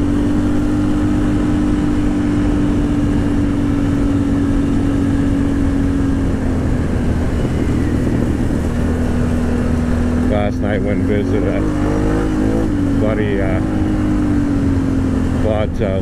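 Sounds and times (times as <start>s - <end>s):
quad bike engine cruising: 0.0s - 16.0s.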